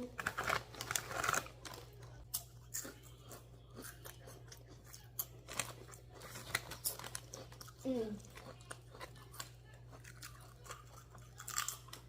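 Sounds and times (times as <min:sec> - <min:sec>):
chips being chewed: 0:00.0 - 0:12.0.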